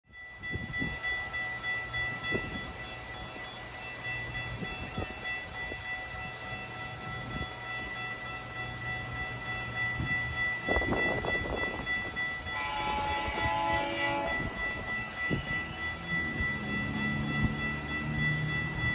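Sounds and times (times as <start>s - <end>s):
train whining: 0.1s - 18.9s.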